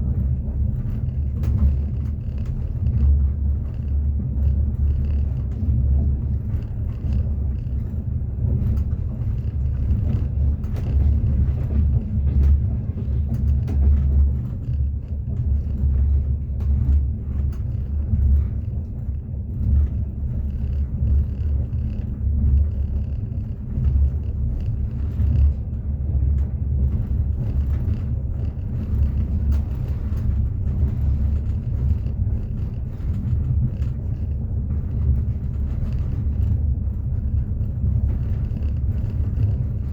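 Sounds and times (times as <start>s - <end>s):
faint rail clicks: 0.0s - 39.9s
train wheels rumbling on rails: 0.0s - 39.9s.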